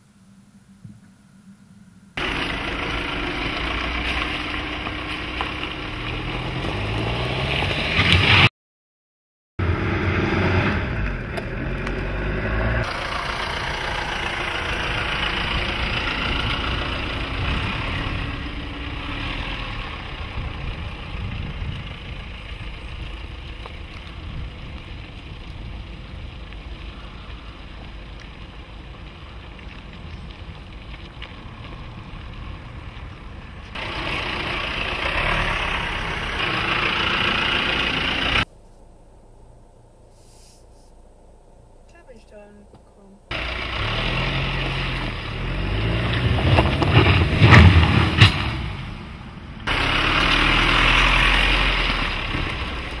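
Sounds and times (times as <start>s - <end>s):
diesel engine under load: 2.1s - 8.4s, 9.6s - 29.5s, 30.2s - 40.0s, 41.6s - 53.0s.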